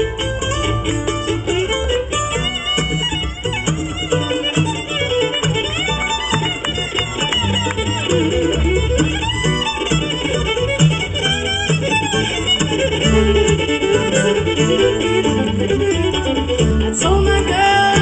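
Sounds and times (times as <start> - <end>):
acoustic guitar: 0.0 - 18.0
fiddle playing: 0.0 - 18.0.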